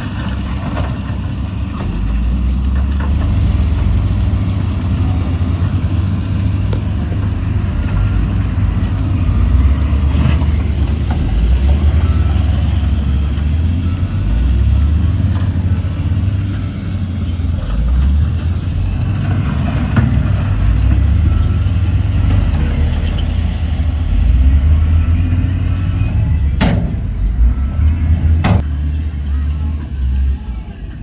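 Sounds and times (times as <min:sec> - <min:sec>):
diesel machinery rumbling: 0:00.0 - 0:31.0.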